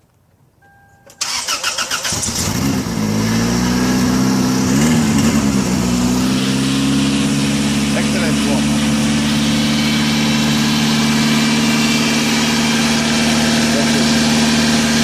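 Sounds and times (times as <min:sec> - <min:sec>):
car engine cranking and idling: 0:00.6 - 0:15.0.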